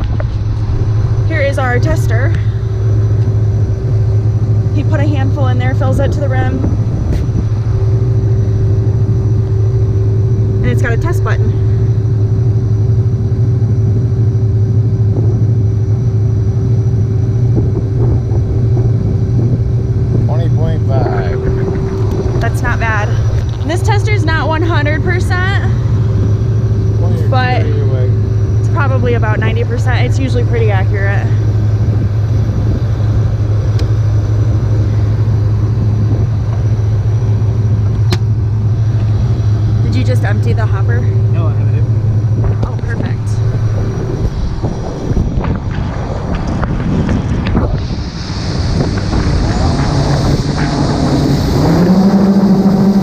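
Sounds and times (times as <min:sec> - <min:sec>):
farm vehicle engine droning: 0:00.0 - 0:53.0.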